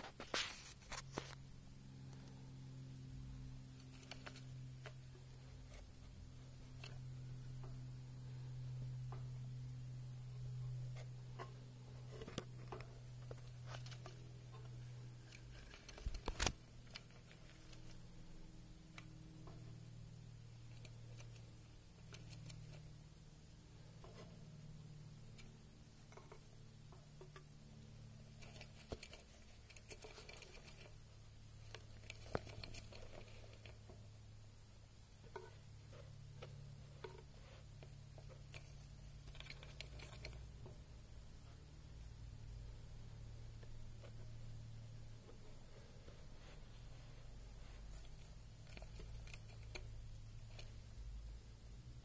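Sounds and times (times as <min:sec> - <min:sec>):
faint low hum: 0:00.0 - 0:52.0.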